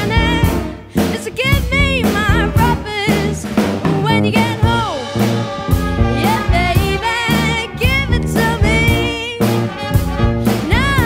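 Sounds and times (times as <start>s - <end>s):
girl singing: 0.0s - 3.4s, 4.0s - 9.6s, 10.6s - 11.0s
drum kit beat: 0.0s - 11.0s
jazz big band playing: 0.0s - 11.0s.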